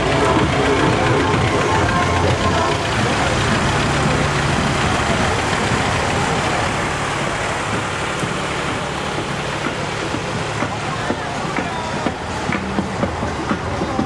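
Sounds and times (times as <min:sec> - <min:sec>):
market crowd din: 0:00.0 - 0:14.0.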